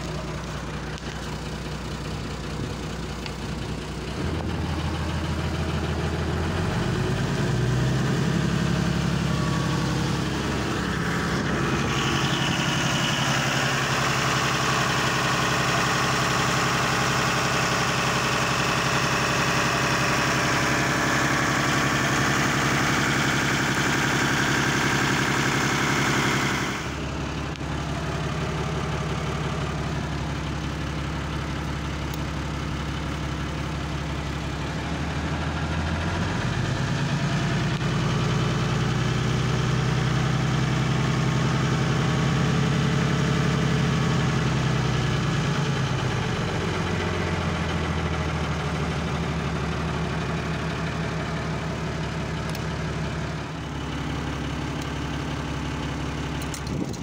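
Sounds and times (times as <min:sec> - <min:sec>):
marine diesel engine running: 0:00.0 - 0:57.0.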